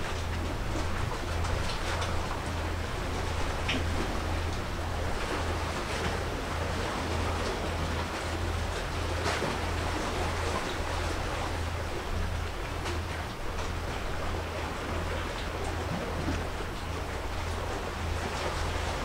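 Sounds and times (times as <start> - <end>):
sea water washing and surging: 0.0 - 19.0
steady low hum: 0.0 - 19.0
wind: 0.0 - 19.0.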